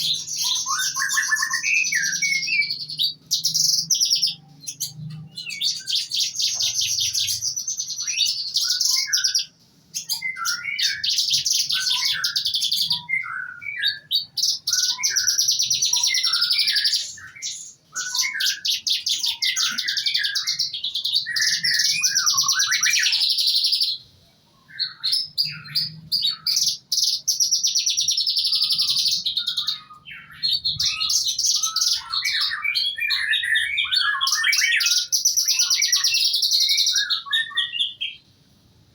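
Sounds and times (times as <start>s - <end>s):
songbird trilling and chirping: 0.0s - 38.3s.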